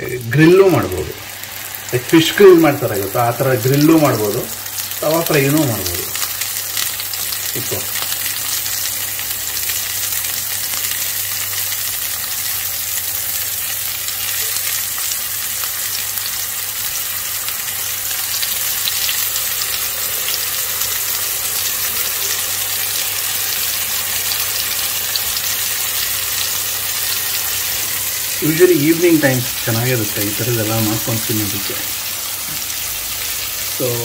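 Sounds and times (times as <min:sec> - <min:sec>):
eggplant sizzling in hot oil: 0:00.0 - 0:34.0.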